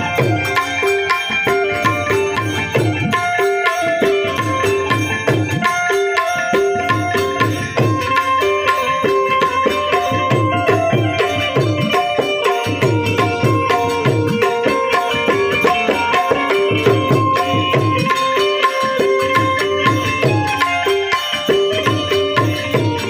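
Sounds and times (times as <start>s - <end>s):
hand drum rhythm: 0.0s - 23.0s
harmonium melody: 0.0s - 23.0s.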